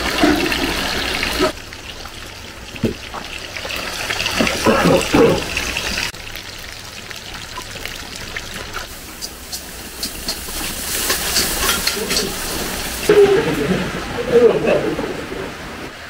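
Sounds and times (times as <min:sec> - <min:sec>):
meat sizzling in hot oil: 0:00.0 - 0:13.1.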